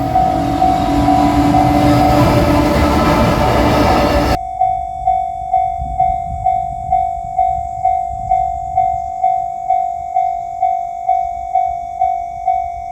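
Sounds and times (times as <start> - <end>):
railroad crossing bell ringing: 0.0 - 12.7.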